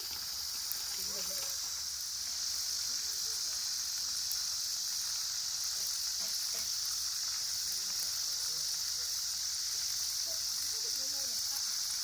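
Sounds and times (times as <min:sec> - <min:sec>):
steady high-pitched hiss: 0:00.0 - 0:12.0
faint distant voices: 0:00.1 - 0:12.0.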